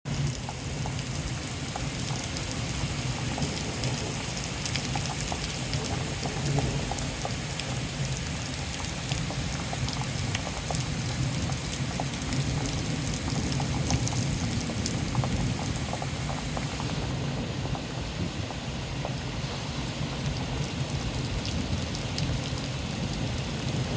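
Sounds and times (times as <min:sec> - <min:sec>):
rain drops ticking on a surface: 0:00.1 - 0:23.9.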